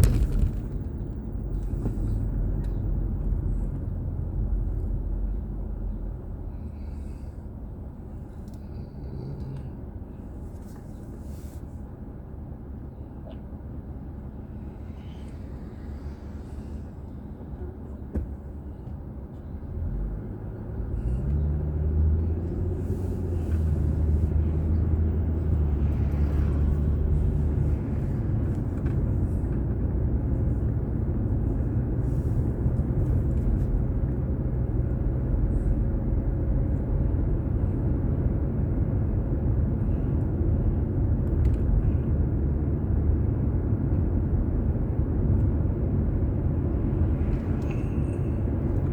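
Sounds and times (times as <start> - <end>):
car engine inside car: 0.0 - 48.9
road noise: 0.0 - 48.9.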